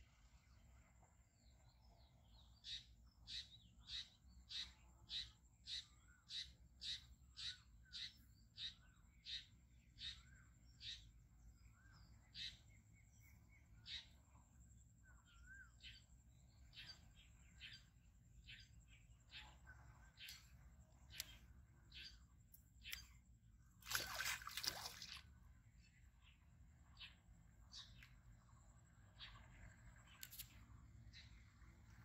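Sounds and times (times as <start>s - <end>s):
faint high-pitched whine: 0.0s - 32.0s.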